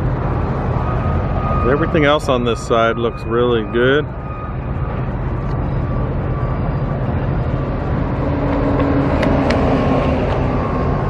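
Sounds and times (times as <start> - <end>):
large engine rumbling: 0.0 - 11.0
steady tone: 0.0 - 11.0.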